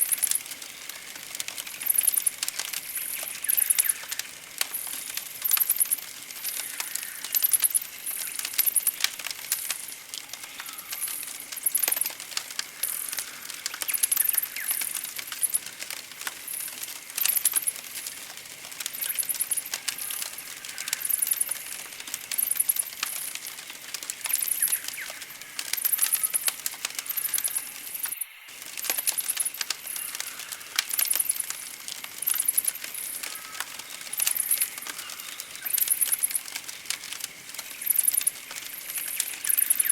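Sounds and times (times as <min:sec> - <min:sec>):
campfire crackling and popping: 0:00.0 - 0:39.9
faint birdsong: 0:00.0 - 0:39.9.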